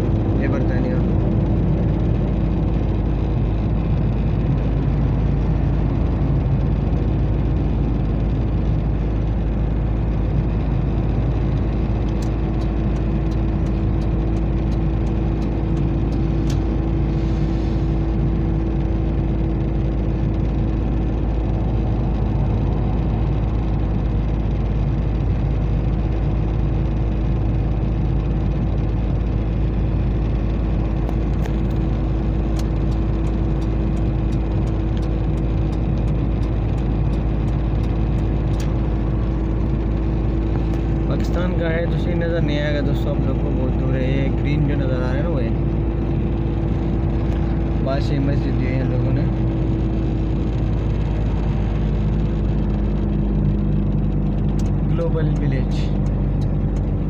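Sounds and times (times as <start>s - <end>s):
vehicle cabin road noise: 0.0s - 57.0s.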